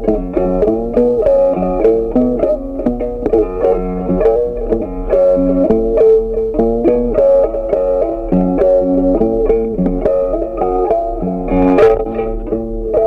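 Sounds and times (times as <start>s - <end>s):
plucked string melody: 0.0s - 13.0s.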